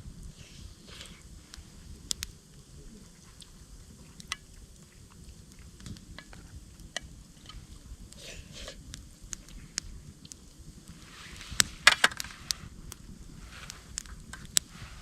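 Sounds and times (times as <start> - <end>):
campfire crackling: 0.0 - 15.0
sharp fire pops: 0.0 - 15.0.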